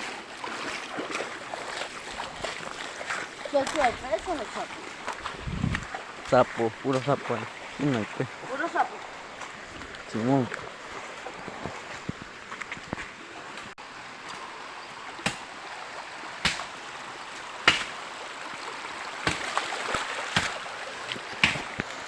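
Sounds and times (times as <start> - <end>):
sharp knocks or splashes: 0.0 - 14.5, 15.2 - 15.7, 16.4 - 22.0
stream rushing: 0.0 - 22.0.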